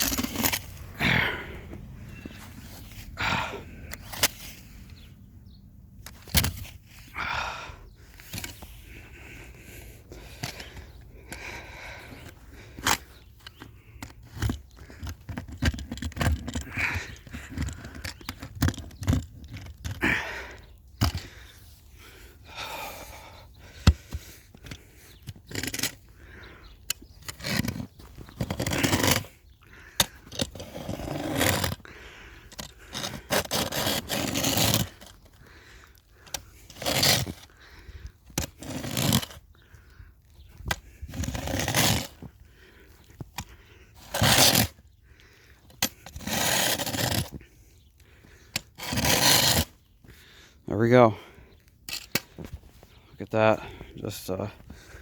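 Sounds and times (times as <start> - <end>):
tool scraping and digging snow: 0.0 - 5.1, 5.9 - 55.0.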